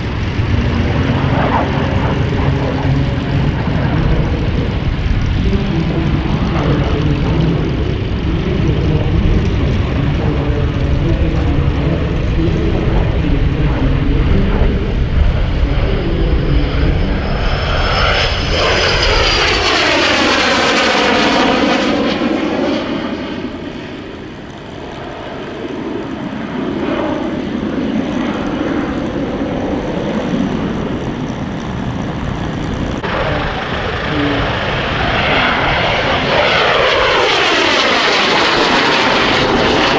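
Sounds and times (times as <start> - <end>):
jet engines on flyby: 0.0 - 39.9.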